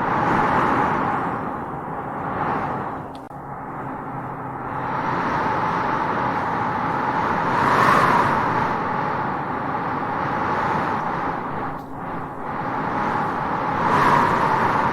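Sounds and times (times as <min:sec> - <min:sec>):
wind blowing across grassland: 0:00.0 - 0:14.9.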